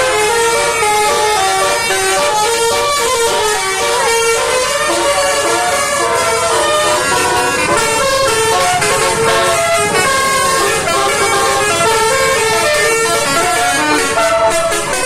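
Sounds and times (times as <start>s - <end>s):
multi-tone vehicle horns melody: 0.0s - 15.0s.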